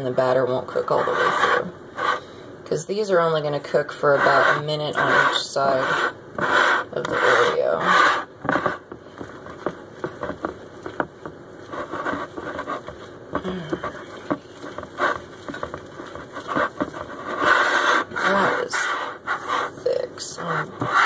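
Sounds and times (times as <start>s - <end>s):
utensil stirring batter in bowl: 0.0s - 21.0s.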